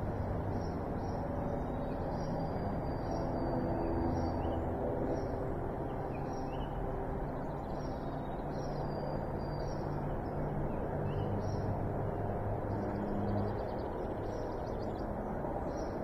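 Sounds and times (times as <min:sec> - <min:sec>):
small birds chirping: 0:00.5 - 0:16.0.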